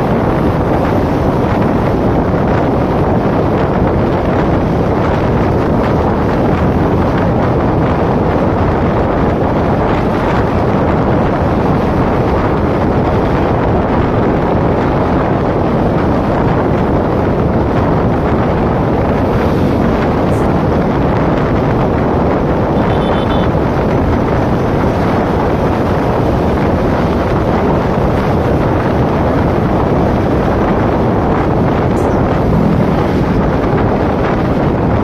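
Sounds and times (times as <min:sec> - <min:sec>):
motorcycle running: 0:00.0 - 0:35.0
wind rushing on microphone: 0:00.0 - 0:35.0.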